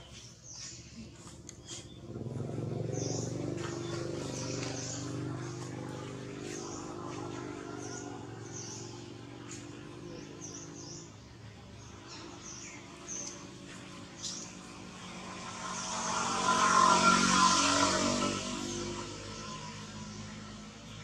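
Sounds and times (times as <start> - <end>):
passing motor vehicle: 0.0 - 21.0
small birds chirping: 0.0 - 21.0.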